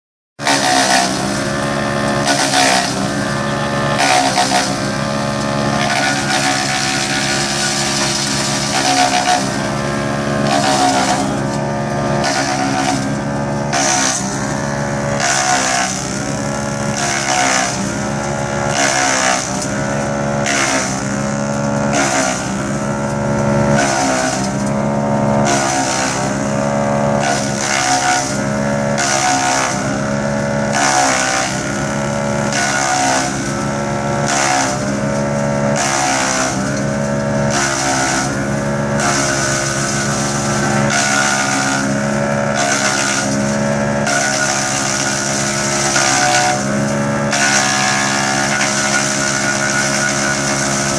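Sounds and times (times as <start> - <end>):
wood chipper droning: 0.4 - 50.9
branches shredding hiss: 0.5 - 24.8, 25.4 - 50.9.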